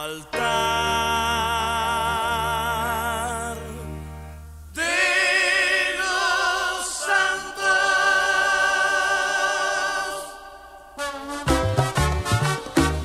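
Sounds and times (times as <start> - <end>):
voices holding a chord: 0.0 - 11.4.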